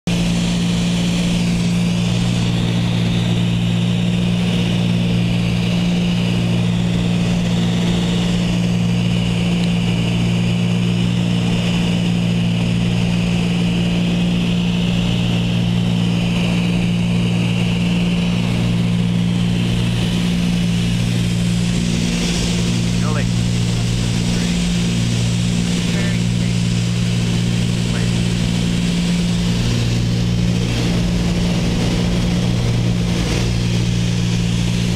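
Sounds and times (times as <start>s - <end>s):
propeller engines droning: 0.0s - 34.9s.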